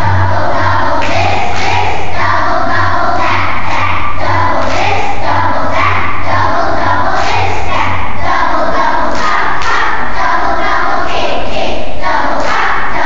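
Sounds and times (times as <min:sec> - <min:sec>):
backing music with low beat: 0:00.0 - 0:11.4
children's choir singing: 0:00.0 - 0:13.0.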